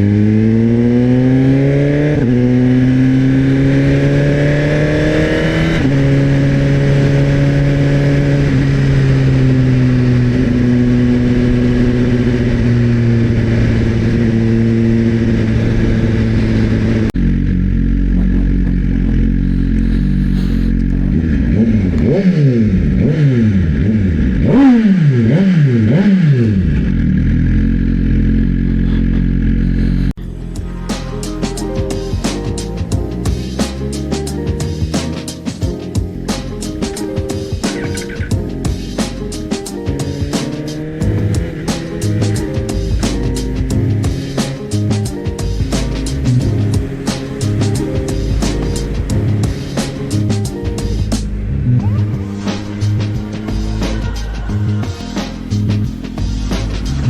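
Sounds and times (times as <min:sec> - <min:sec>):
motorcycle engine accelerating: 0:00.0 - 0:57.0
motorcycle throttle blips: 0:00.0 - 0:57.0.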